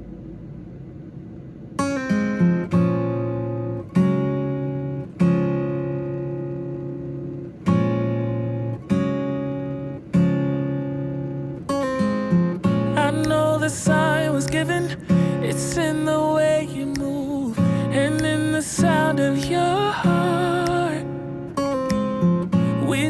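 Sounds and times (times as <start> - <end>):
acoustic guitar strumming chords: 1.8 - 23.0.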